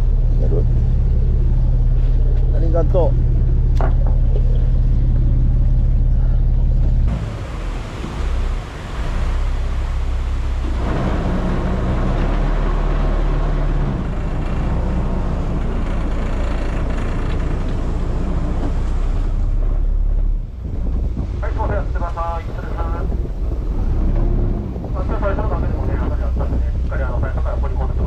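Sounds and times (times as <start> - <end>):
boat engine running: 0.0 - 28.0
steady rushing noise: 4.7 - 28.0.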